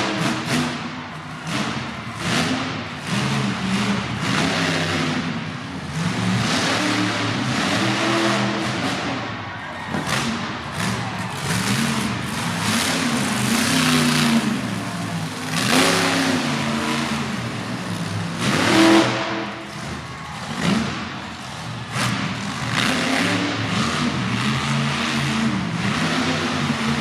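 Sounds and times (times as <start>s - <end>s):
truck engine revving hard: 0.0s - 27.0s.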